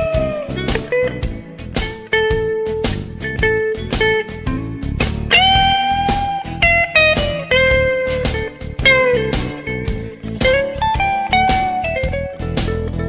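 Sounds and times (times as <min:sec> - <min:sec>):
blues guitar music: 0:00.0 - 0:13.0.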